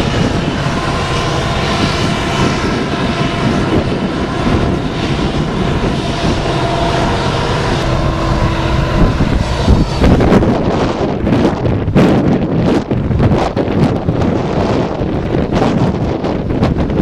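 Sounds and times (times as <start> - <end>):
diesel locomotive engine working: 0.0 - 17.0
high whine: 0.0 - 17.0
wind buffeting microphone: 0.0 - 17.0.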